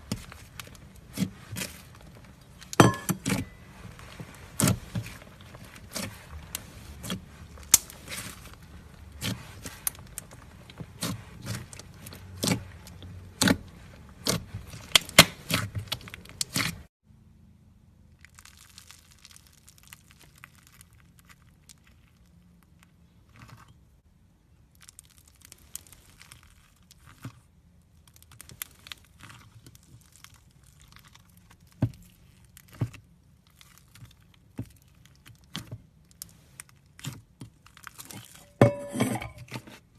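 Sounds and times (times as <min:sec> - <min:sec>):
slime crackling and popping: 0:00.0 - 0:16.9, 0:18.1 - 0:23.7, 0:24.6 - 0:38.4.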